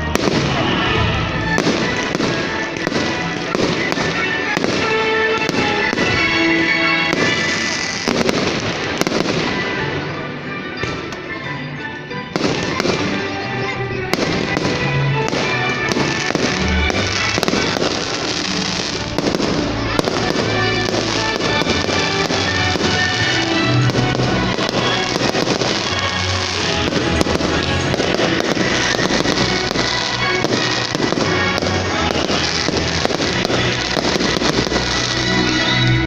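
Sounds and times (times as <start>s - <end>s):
fireworks bangs and crackles: 0.0s - 11.4s, 12.3s - 36.0s
loud show music: 0.0s - 36.0s.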